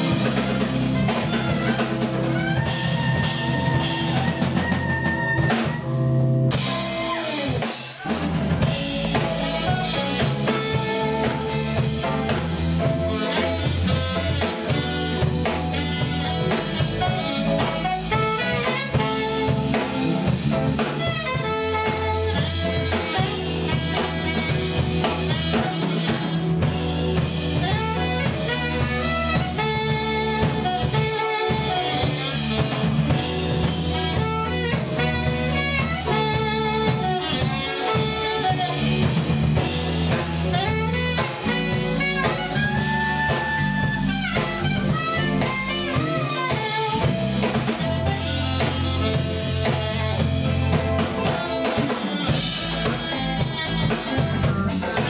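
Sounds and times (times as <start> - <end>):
bass guitar: 0.0 - 55.0
drum kit beat: 0.0 - 55.0
electric guitar: 0.0 - 55.0
keyboard: 0.0 - 55.0
saxophone lead: 0.0 - 55.0.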